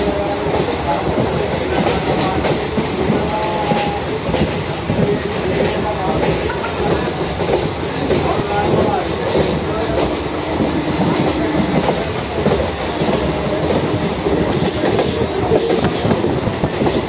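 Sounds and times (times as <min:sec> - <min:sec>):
track clatter: 0:00.0 - 0:17.0
train wheels on rails: 0:00.0 - 0:17.0.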